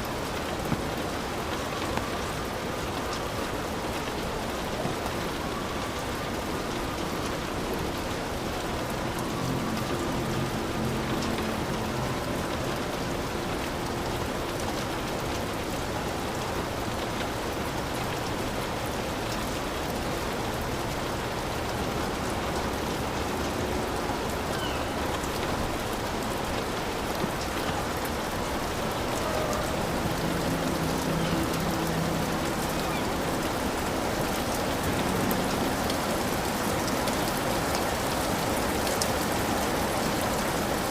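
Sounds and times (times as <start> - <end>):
heavy rain on a hut: 0.0 - 40.9.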